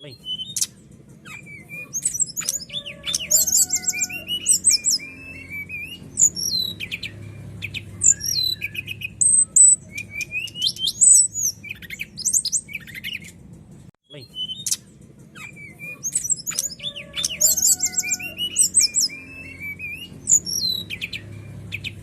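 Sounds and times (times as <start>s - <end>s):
bird singing whistles and trills: 0.0s - 13.4s, 14.1s - 22.0s.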